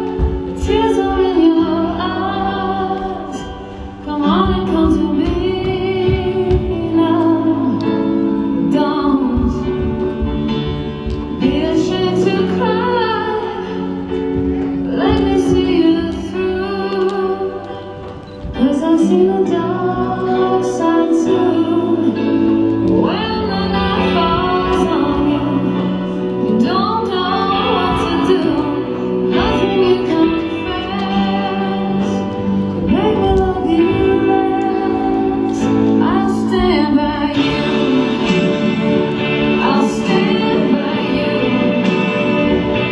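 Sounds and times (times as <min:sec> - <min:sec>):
instrumental backing: 0:00.0 - 0:42.9
woman singing: 0:00.0 - 0:42.9.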